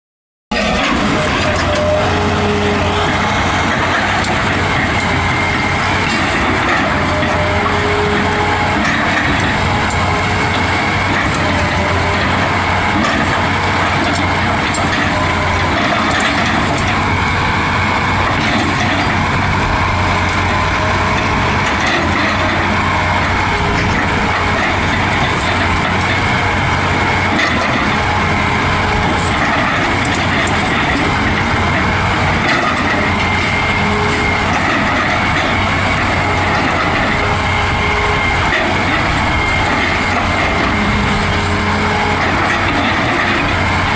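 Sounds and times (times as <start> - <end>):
excavator diesel engine running: 0.5 - 43.9
loud mechanical clatter: 0.5 - 43.9.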